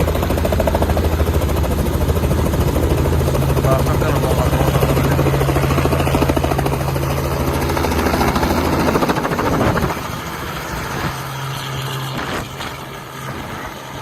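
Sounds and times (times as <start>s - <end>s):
helicopter engine hum: 0.0s - 14.0s
helicopter rotor chopping: 0.0s - 14.0s.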